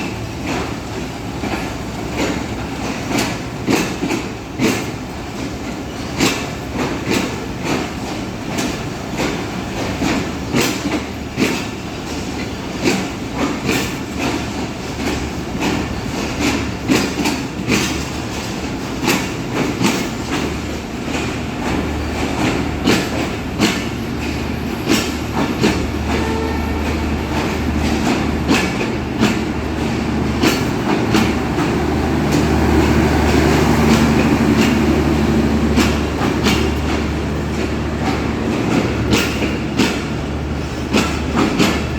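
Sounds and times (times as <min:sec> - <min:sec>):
train low rumble: 0:00.0 - 0:41.9
train wheels clacking over rail joints: 0:00.0 - 0:41.9.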